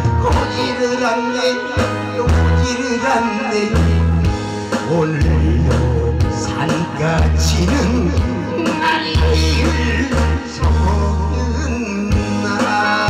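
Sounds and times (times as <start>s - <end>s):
amplified backing track with bass: 0.0s - 13.0s
person singing into microphone: 0.0s - 13.0s.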